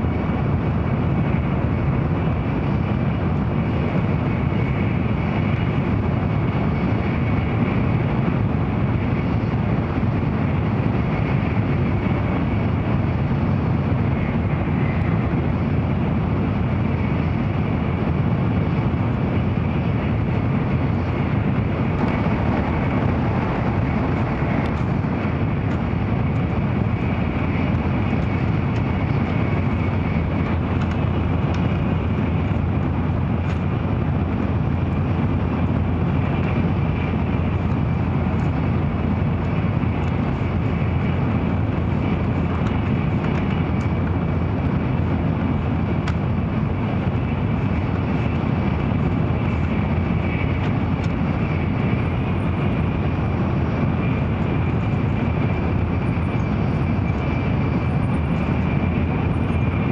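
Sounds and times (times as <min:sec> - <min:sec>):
train running and air noise: 0:00.0 - 0:59.9.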